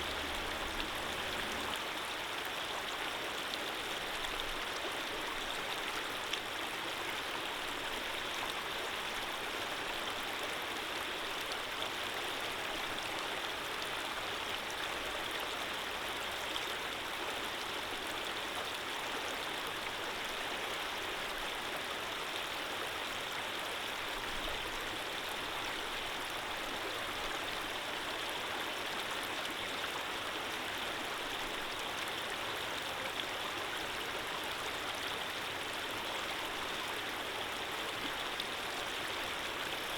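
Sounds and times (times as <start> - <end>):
stream rushing and splashing: 0.0 - 39.9.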